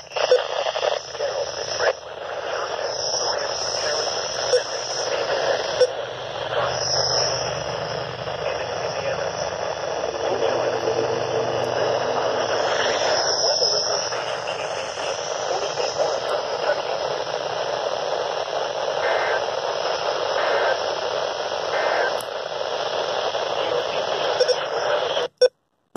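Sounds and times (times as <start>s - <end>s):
radio static hiss: 0.0s - 25.5s.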